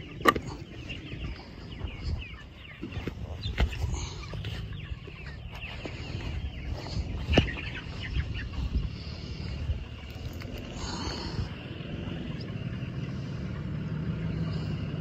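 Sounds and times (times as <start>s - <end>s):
chickens clucking: 0.0s - 15.0s
low rumble: 0.0s - 15.0s.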